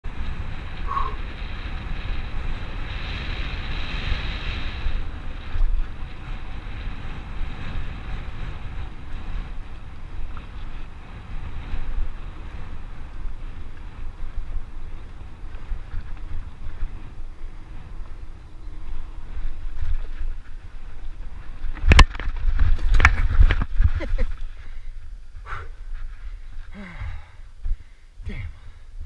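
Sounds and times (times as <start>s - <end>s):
rumble and rattle of riding: 0.0s - 29.0s
wind buffeting microphone: 0.0s - 29.0s.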